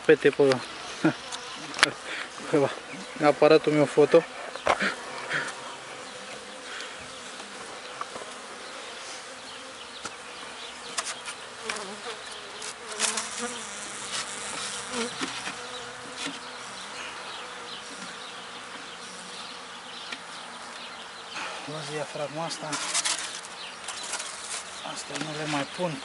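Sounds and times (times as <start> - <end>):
bees humming around hive: 0.0 - 26.0
bee flying past buzzing: 0.7 - 25.8.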